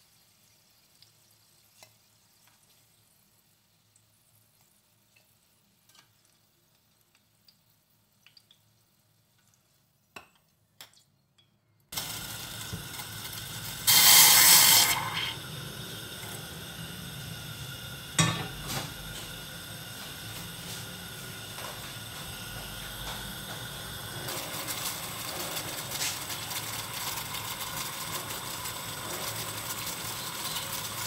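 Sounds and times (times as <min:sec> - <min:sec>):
steady hiss of heating water: 0:00.0 - 0:10.0, 0:12.0 - 0:31.0.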